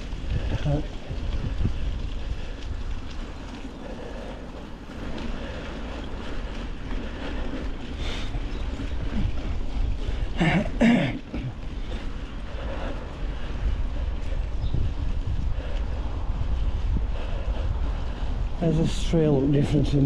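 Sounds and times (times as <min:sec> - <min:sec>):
rider vocal sounds: 0:00.0 - 0:16.2, 0:18.4 - 0:20.0
mountain bike rolling on trail: 0:00.0 - 0:20.0
wind buffeting microphone: 0:00.0 - 0:20.0.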